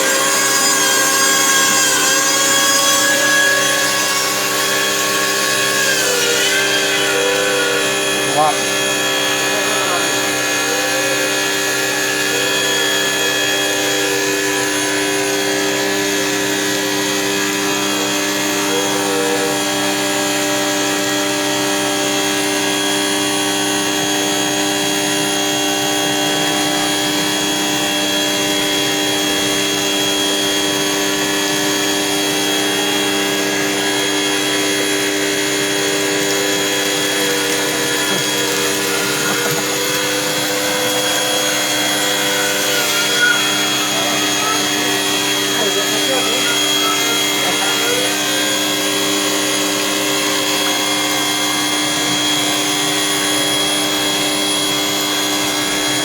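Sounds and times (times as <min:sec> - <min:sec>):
power tool motor whining: 0:00.0 - 0:56.0.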